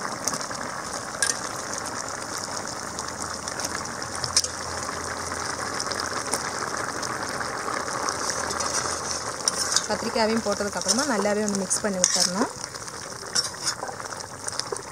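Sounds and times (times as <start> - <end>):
gravy bubbling at the boil: 0.0 - 14.9.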